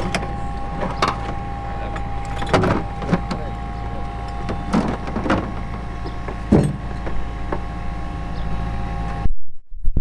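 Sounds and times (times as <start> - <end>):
hoist motor humming and whining: 0.0 - 9.3.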